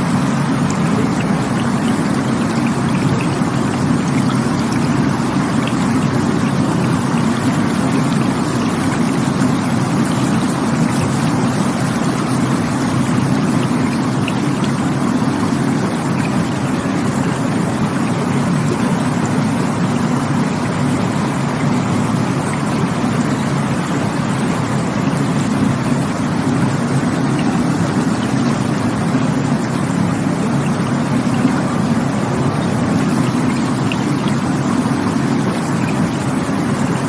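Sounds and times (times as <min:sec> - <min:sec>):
rushing water: 0:00.0 - 0:37.0.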